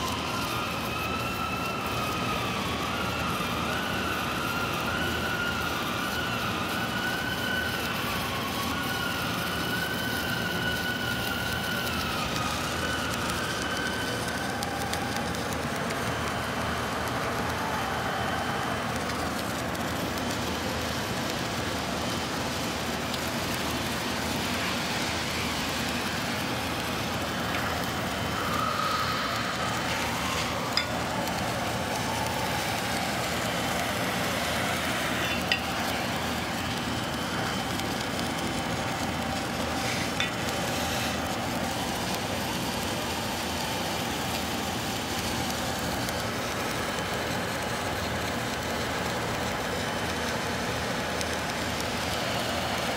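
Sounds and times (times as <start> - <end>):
welding hiss: 0.0 - 52.9.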